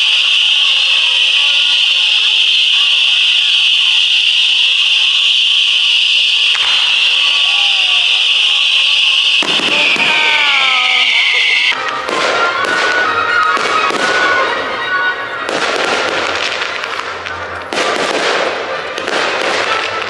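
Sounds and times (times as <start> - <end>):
faint music: 0.0 - 20.0
fireworks crackling and popping: 0.0 - 20.0
fireworks fountain hissing: 0.0 - 20.0.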